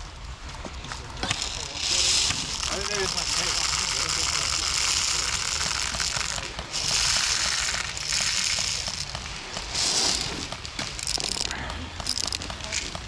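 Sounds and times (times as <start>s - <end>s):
rustling crackling noise: 0.0s - 13.0s.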